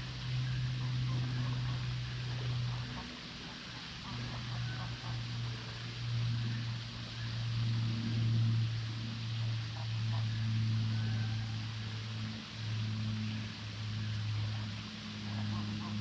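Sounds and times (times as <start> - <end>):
distant engine humming: 0.0 - 16.0.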